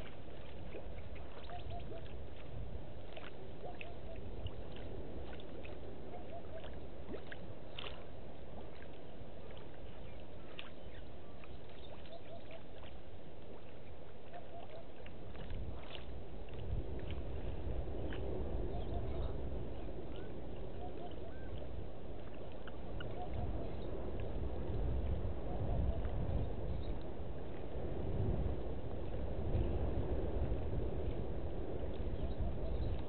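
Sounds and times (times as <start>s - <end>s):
wind rumble on microphone: 0.0s - 33.0s.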